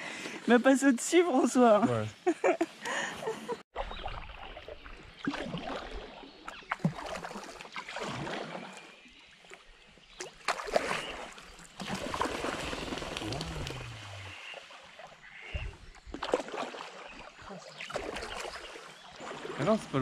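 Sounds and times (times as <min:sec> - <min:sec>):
paddle splashing in water: 0:03.7 - 0:20.0
water dripping and sloshing: 0:03.8 - 0:20.0.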